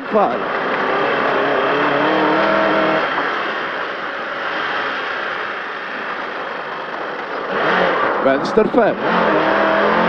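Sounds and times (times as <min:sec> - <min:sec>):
car engine: 0:00.0 - 0:10.0.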